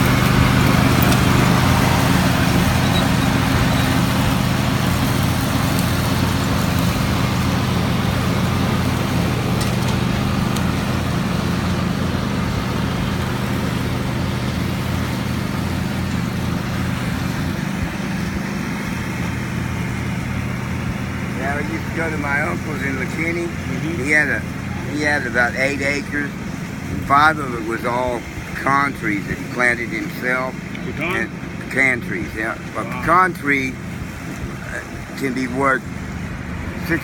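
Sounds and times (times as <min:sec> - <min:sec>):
lawn tractor engine running: 0:00.0 - 0:37.0.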